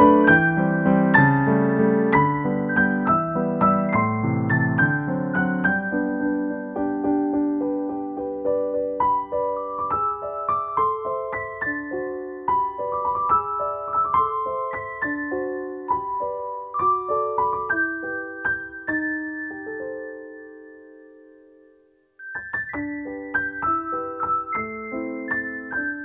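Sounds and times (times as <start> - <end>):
slow solo piano: 0.0 - 26.0.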